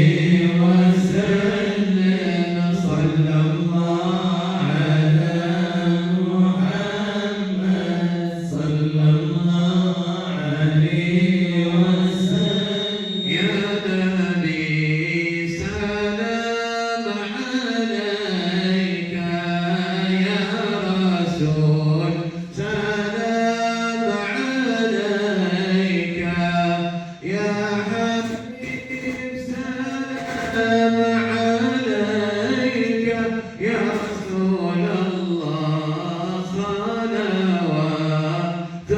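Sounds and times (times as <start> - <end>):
voices chanting unaccompanied: 0.0 - 16.3, 17.0 - 38.9.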